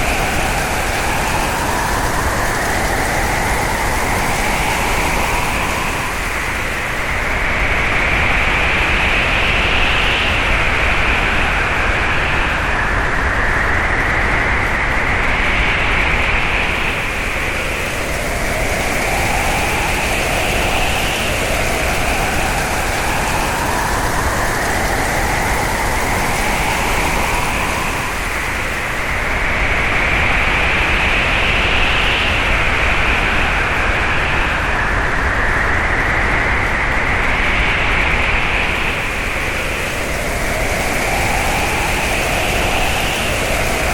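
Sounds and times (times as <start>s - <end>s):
howling wind with whistling tones: 0.0s - 43.9s.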